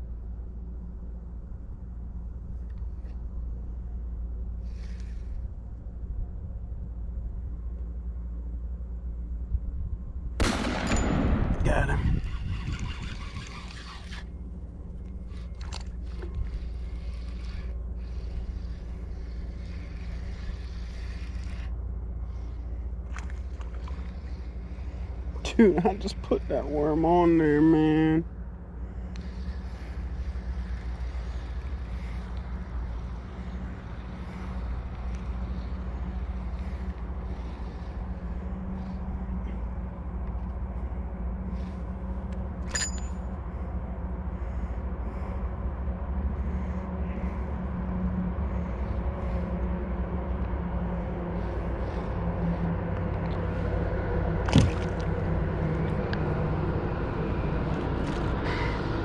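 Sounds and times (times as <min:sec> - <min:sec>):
low motor hum: 0:00.0 - 0:59.0.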